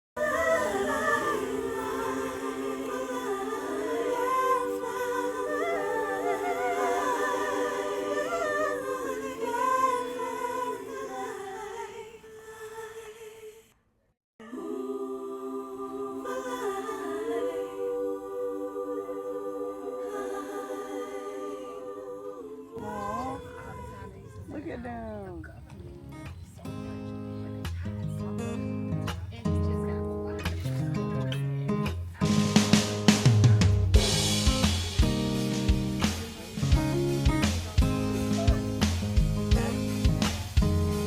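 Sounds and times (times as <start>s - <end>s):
a cappella voices singing: 0.2s - 13.8s, 14.4s - 25.2s, 32.2s - 41.0s.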